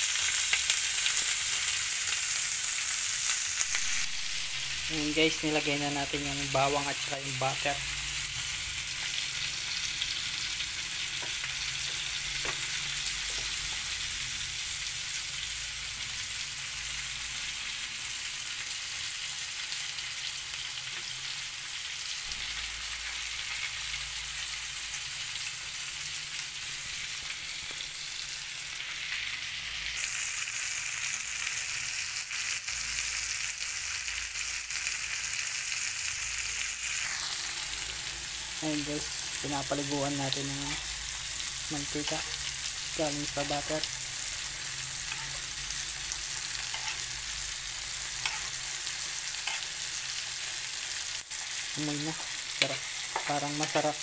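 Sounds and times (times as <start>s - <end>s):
steak sizzling in a frying pan: 0.0s - 54.0s.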